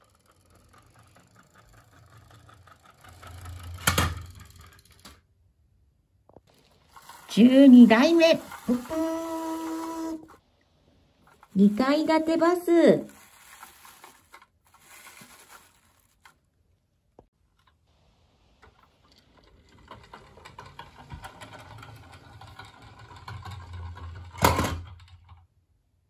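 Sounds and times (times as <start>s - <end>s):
toy bus wheels rolling on wood: 0.0s - 5.3s, 6.3s - 16.4s, 17.6s - 25.5s.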